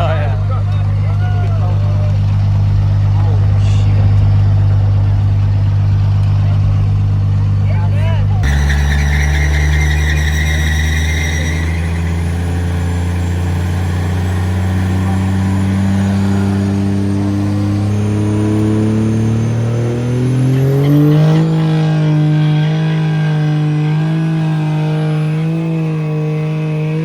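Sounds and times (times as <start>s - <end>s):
truck engine revving: 0.0s - 27.0s.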